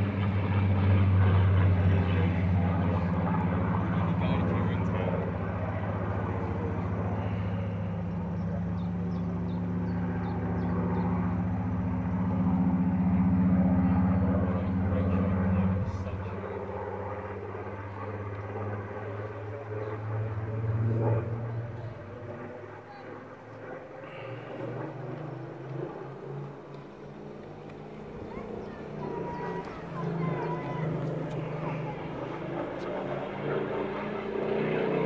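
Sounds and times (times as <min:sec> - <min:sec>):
aircraft engine droning overhead: 0:00.0 - 0:35.0.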